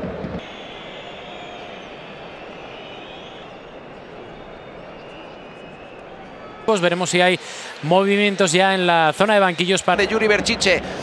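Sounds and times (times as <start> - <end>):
stadium crowd hubbub: 0.0 - 11.0.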